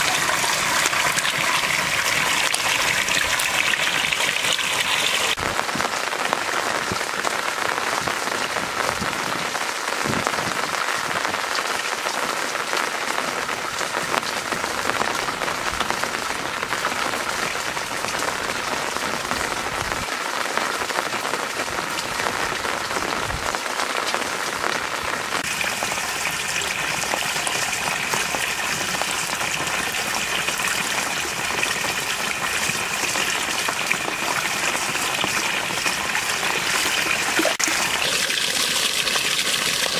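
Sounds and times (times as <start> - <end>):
water splashing into pond pools: 0.0 - 39.9.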